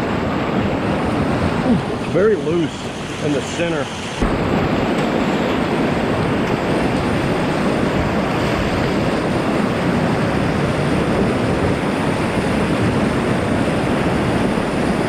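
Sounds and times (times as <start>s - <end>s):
water splashing against kayak: 0.0s - 15.0s
whitewater rushing: 0.0s - 15.0s.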